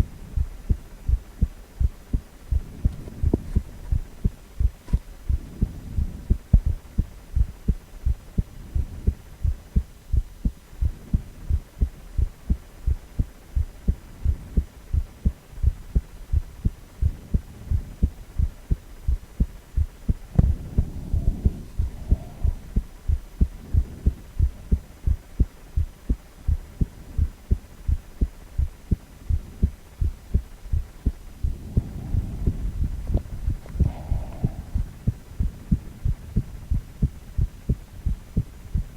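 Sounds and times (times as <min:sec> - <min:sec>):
heartbeat thuds: 0:00.0 - 0:38.9.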